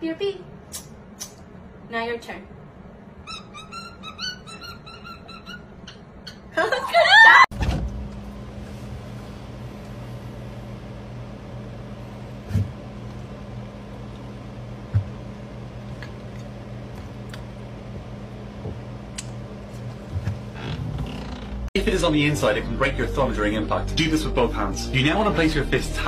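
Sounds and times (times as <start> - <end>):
refrigerator humming: 2.7 - 26.0.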